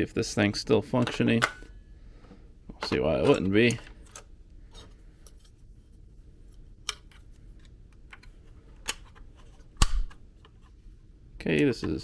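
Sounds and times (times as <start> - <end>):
plastic and metal handling noises: 0.8 - 12.0.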